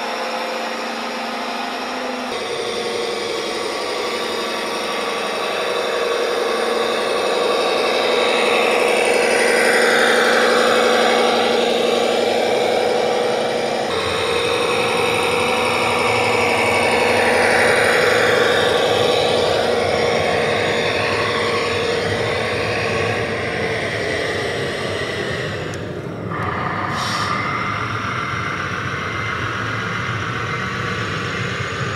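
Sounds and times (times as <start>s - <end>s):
high-pitched whir: 0.0s - 31.9s
model truck mechanical drone: 0.0s - 31.9s.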